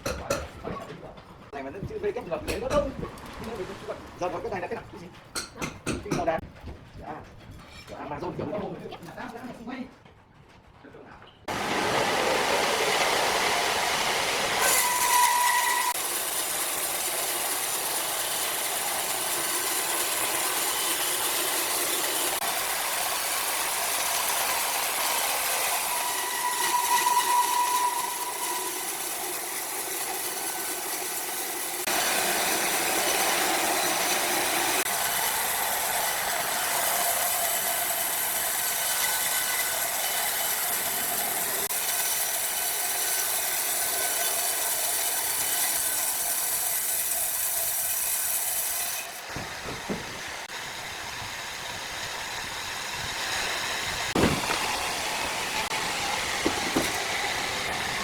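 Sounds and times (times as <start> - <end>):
saw whine: 11.5 - 58.0
sawmill saw cutting log: 11.5 - 58.0.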